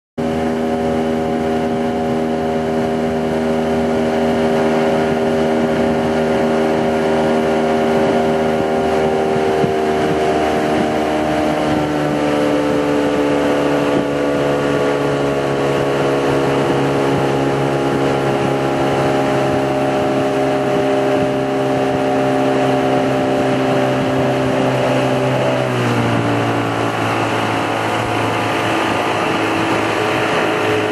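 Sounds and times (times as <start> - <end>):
boat engine running: 0.2 - 30.9.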